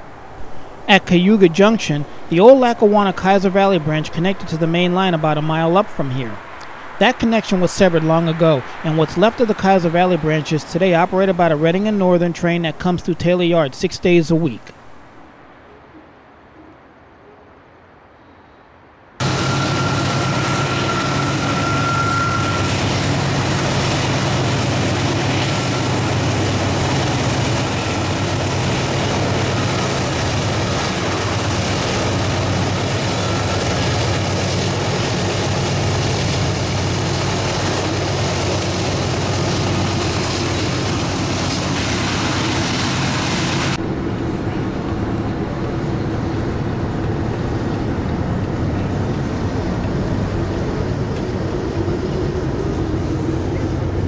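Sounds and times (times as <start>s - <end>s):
locomotive engines humming: 0.0s - 54.0s
train rumble and rattle: 1.5s - 11.7s, 19.2s - 54.0s.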